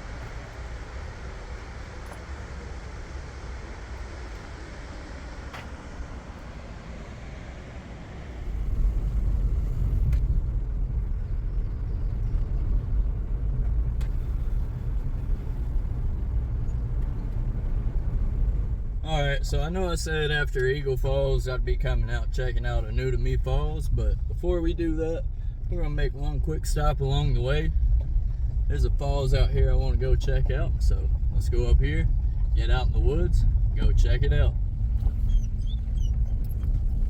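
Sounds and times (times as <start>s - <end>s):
car road rumble: 0.0s - 37.0s.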